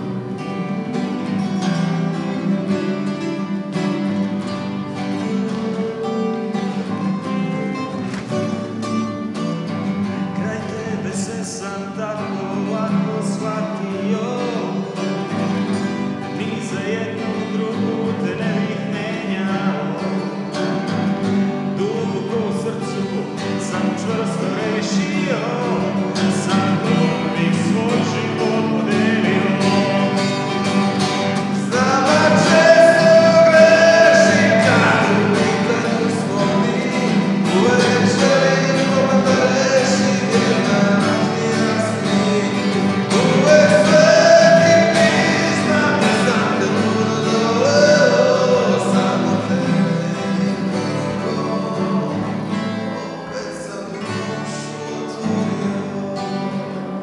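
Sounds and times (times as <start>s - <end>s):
acoustic guitar picking melody: 0.0s - 57.0s
acoustic guitar strumming chords: 0.0s - 57.0s.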